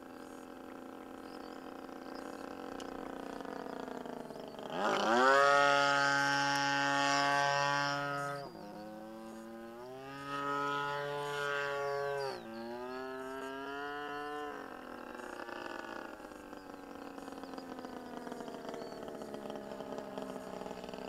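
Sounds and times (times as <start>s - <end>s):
model airplane motor whine: 0.0s - 21.0s.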